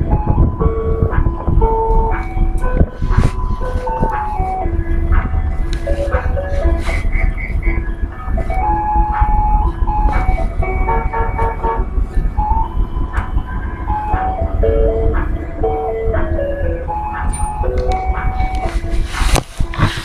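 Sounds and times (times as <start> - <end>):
ice cream truck jingle: 0.0 - 19.9
truck engine rumbling: 0.0 - 20.0.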